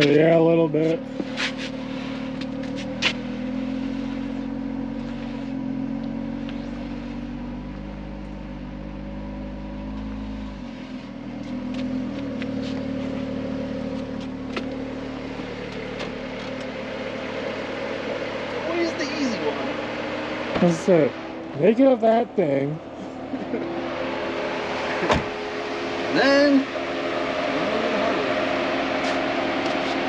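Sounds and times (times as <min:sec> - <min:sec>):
car engine running under load: 0:00.0 - 0:30.0.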